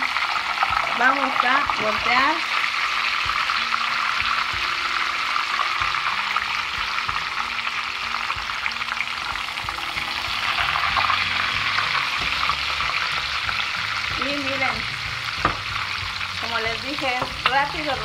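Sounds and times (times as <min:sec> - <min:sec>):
meat sizzling in hot oil: 0:00.0 - 0:18.0
spatula turning food in pan: 0:00.0 - 0:18.0.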